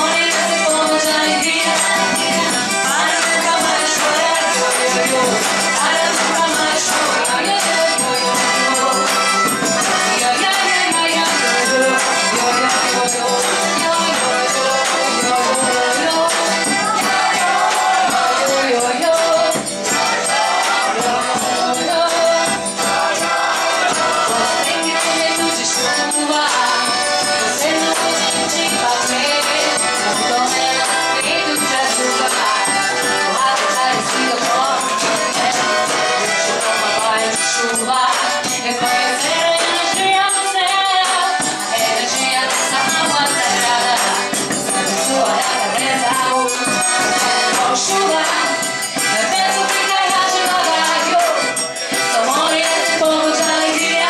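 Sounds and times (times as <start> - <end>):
accordion: 0.0 - 54.0
acoustic guitar: 0.0 - 54.0
rattling hand percussion: 0.0 - 54.0
voices singing together: 0.0 - 54.0.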